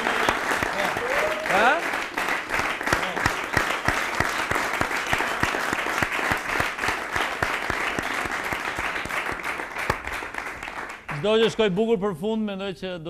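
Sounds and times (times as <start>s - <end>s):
audience clapping in rhythm: 0.0s - 11.7s.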